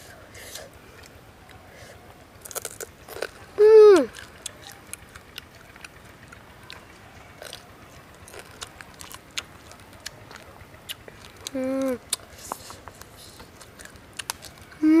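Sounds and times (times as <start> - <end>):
person chewing: 0.0 - 14.9.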